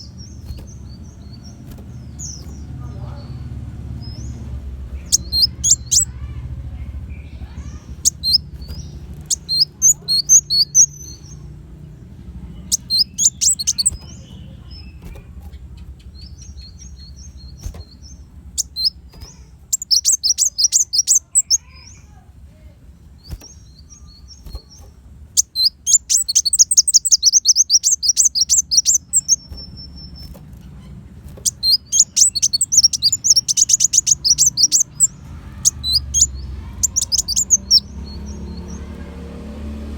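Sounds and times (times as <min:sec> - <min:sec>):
faint low hum: 0:00.0 - 0:39.9
sunbird chirps and trills: 0:00.0 - 0:39.9.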